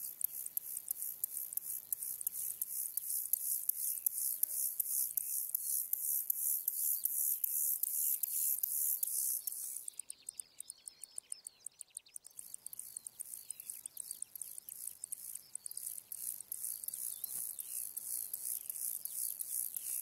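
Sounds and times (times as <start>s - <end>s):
high insect ticks: 0.0s - 20.0s.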